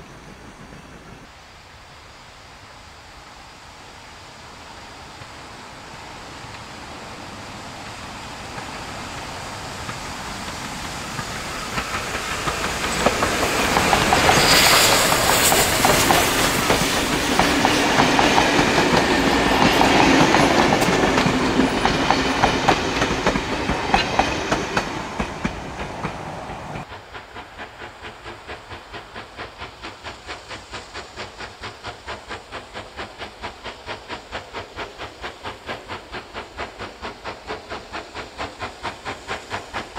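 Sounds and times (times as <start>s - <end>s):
steam locomotive passing: 0.0s - 39.9s
train wheels clicking over rail joints: 6.3s - 39.9s.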